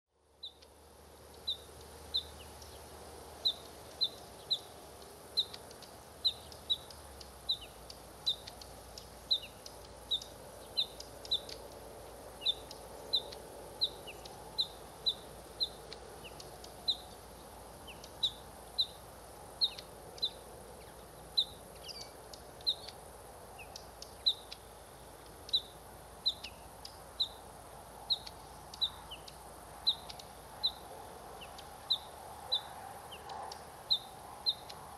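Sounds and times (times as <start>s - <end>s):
low background hum: 0.2s - 34.9s
faint bird chirps: 0.3s - 34.9s.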